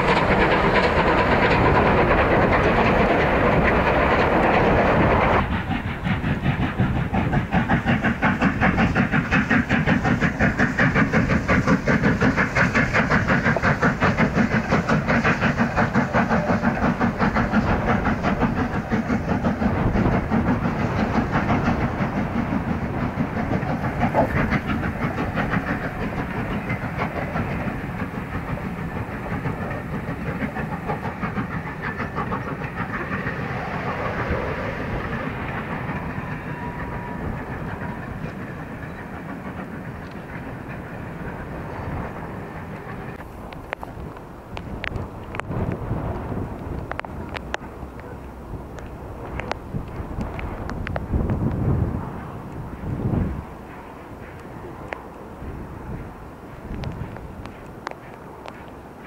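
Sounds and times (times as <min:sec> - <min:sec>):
steam locomotive exhaust beats: 0:00.0 - 0:59.0.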